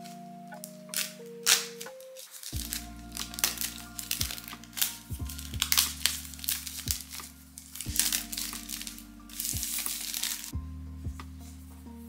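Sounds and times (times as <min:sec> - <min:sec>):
plastic wrap crinkling: 0:00.0 - 0:10.5
soft background music: 0:00.0 - 0:12.0.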